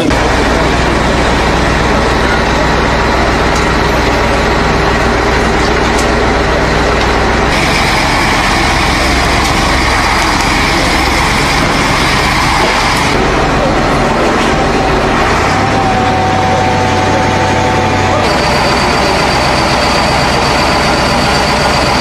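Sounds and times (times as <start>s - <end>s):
heavy truck engine droning: 0.0s - 22.0s.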